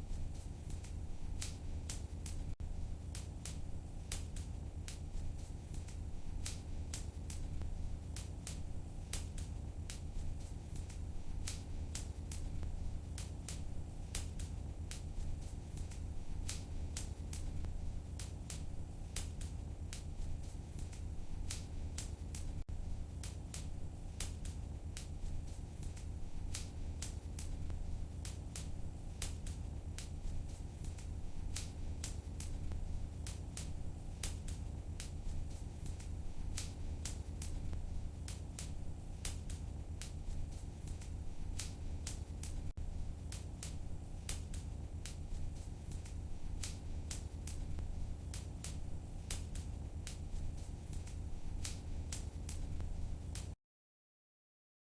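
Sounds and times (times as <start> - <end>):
wood fire crackling and popping: 0.0 - 53.6.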